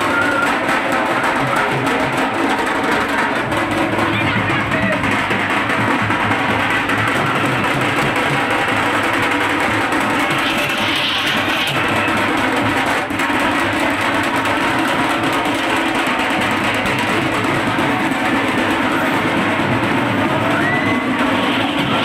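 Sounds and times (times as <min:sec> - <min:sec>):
crowd noise: 0:00.0 - 0:22.0
stick drums playing: 0:00.0 - 0:22.0.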